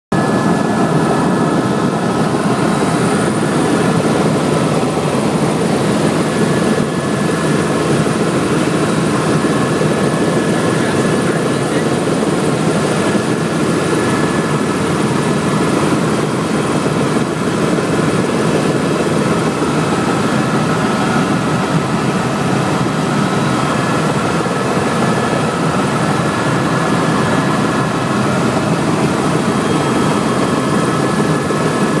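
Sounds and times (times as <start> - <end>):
helicopter engine and rotor drone: 0.1 - 32.0.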